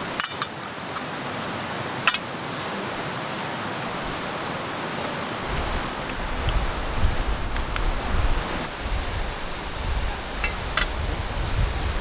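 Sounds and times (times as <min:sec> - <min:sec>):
steady rushing background noise: 0:00.0 - 0:12.0.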